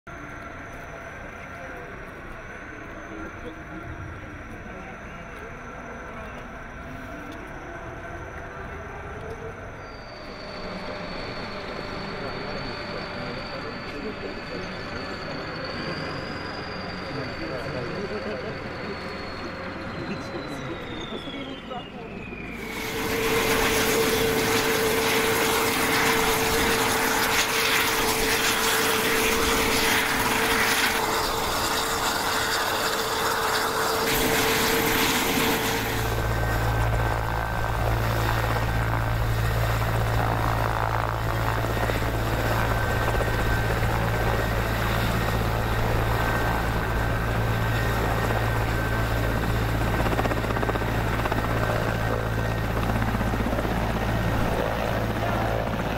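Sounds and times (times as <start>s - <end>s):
deep low drone: 0.1s - 55.9s
helicopter engine and rotor: 0.1s - 55.9s
steady whine: 0.1s - 55.9s.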